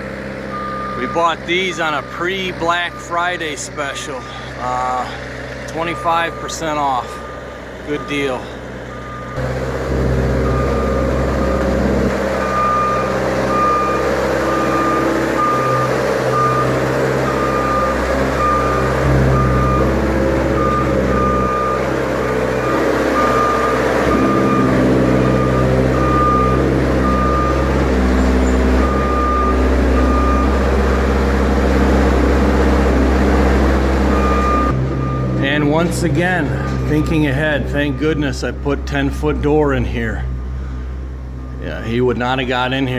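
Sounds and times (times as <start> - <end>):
reversing alarm beeping: 0.0 - 42.9
truck engine rumbling: 0.0 - 42.9.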